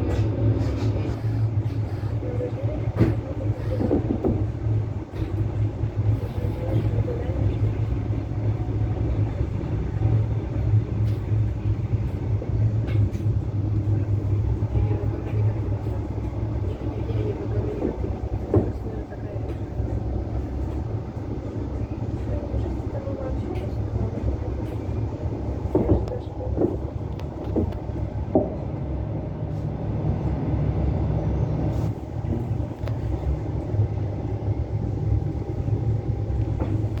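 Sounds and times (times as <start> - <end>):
train running low drone: 0.0 - 37.0.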